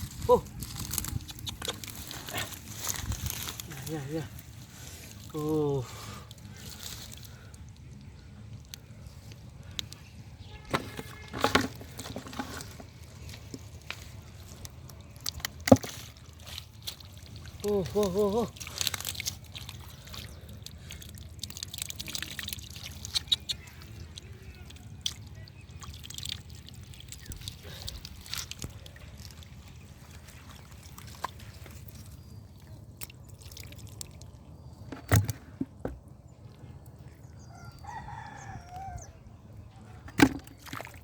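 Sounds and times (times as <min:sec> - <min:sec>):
hands squelching in mud and water: 0:00.0 - 0:37.9, 0:39.5 - 0:41.0.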